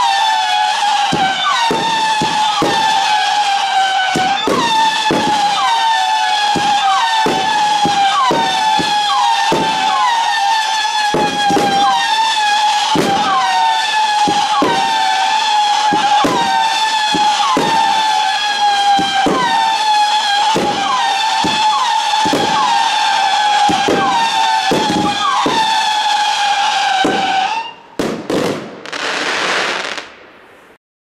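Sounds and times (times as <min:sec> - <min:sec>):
firework whistles: 0:00.0 - 0:30.1.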